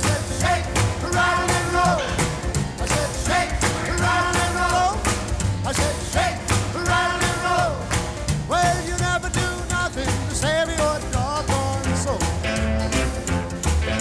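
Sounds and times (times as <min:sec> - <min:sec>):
rock and roll music: 0:00.0 - 0:14.0.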